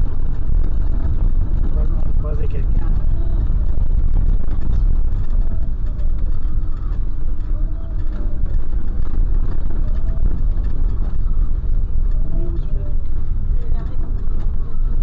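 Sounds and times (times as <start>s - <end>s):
van engine and tyre rumble: 0.0s - 15.0s.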